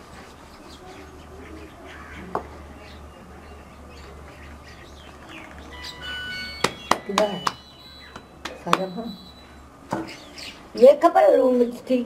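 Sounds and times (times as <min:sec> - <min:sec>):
small birds chirping: 0:00.3 - 0:11.9.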